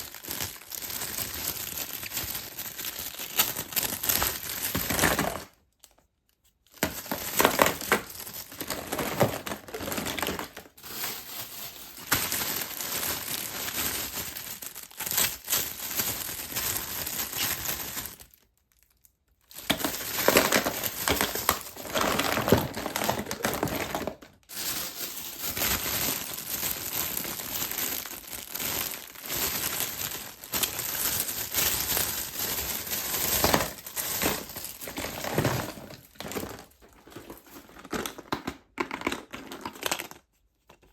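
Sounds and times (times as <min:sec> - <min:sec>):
wrappers crinkling and tearing: 0:00.0 - 0:40.9.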